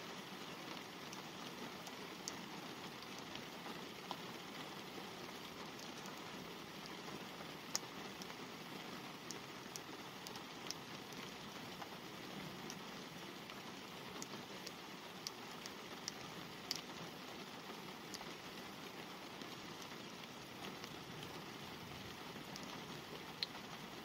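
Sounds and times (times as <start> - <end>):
light rain on car glass: 0.0 - 24.0.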